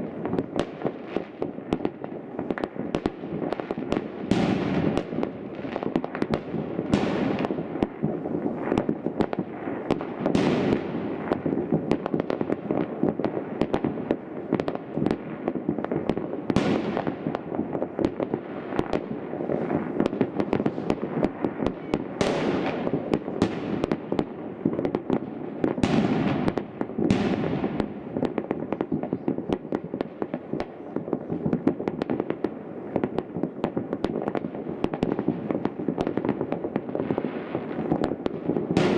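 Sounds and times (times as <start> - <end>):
fireworks bangs: 0.0 - 38.9
fireworks crackling and popping: 0.0 - 38.9.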